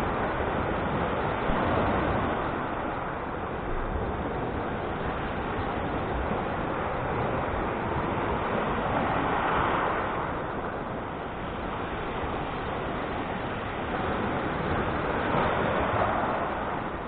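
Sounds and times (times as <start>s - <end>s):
sea waves washing in: 0.0s - 17.0s
wind buffeting microphone: 0.0s - 17.0s.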